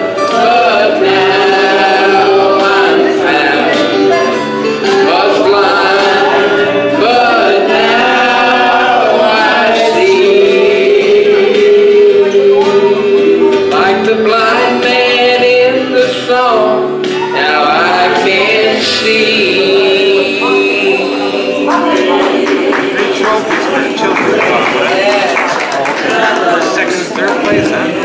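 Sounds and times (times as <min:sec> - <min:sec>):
vocal group singing a hymn: 0:00.0 - 0:28.0.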